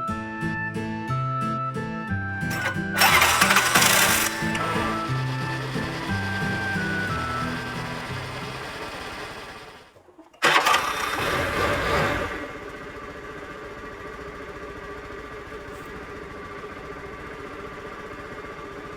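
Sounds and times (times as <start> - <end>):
scooter engine starting and idling: 2.5 - 18.9.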